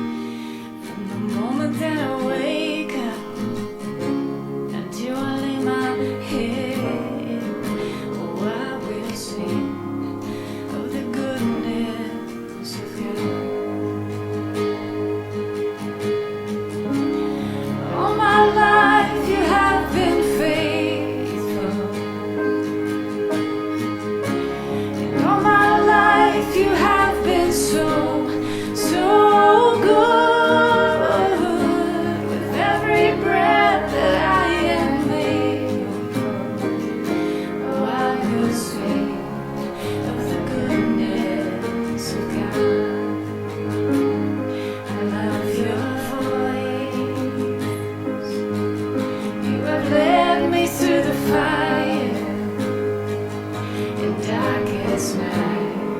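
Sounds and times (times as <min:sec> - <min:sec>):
person singing: 0:00.0 - 0:55.9
slow acoustic guitar worship music: 0:00.0 - 0:55.9.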